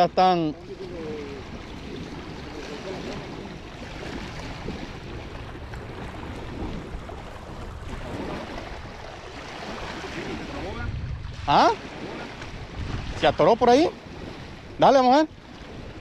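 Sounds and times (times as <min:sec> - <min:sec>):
small waves lapping on concrete: 0:00.0 - 0:16.0
wind buffeting microphone: 0:00.0 - 0:16.0.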